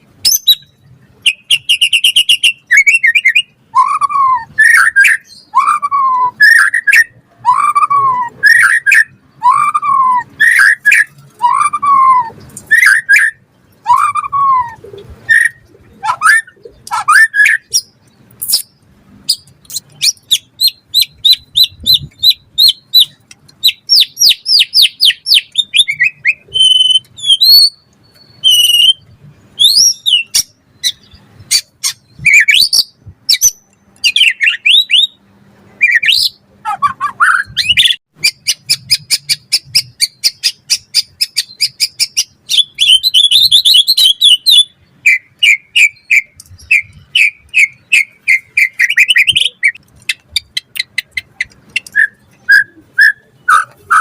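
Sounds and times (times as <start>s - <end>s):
songbird singing with trills: 0.2s - 54.0s.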